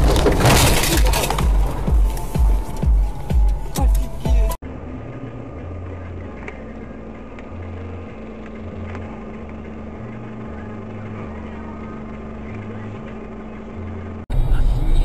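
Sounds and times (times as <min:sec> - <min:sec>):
car cabin noise: 0:00.0 - 0:15.0
low hum shifting in pitch: 0:00.0 - 0:15.0.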